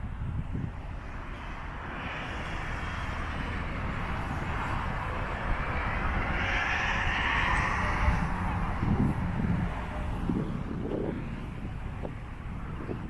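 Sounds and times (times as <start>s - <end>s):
cars passing: 0.0s - 13.0s
low traffic rumble: 0.0s - 13.0s.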